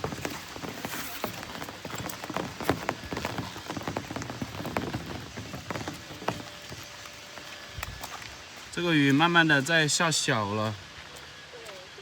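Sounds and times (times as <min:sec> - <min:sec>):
rain falling: 0:00.0 - 0:12.0
raindrops ticking on a surface: 0:00.0 - 0:12.0.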